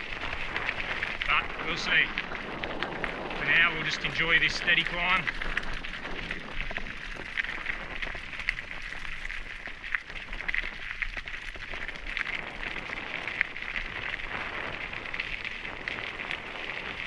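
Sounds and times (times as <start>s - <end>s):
bike rattling: 0.0s - 17.0s
bike tyres crunching on gravel: 0.0s - 17.0s.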